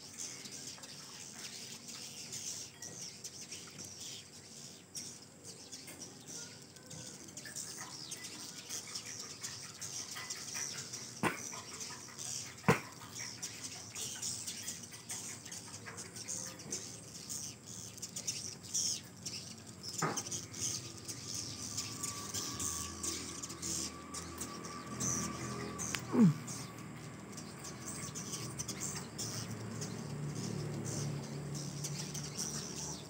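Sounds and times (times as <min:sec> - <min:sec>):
birds chirping and twittering: 0:00.0 - 0:33.0.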